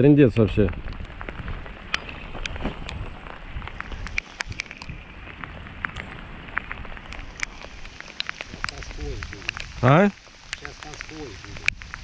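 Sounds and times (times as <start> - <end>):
raindrops ticking close by: 0.0 - 12.0
steady rain falling: 0.0 - 12.0
wind rumble on microphone: 0.0 - 12.0.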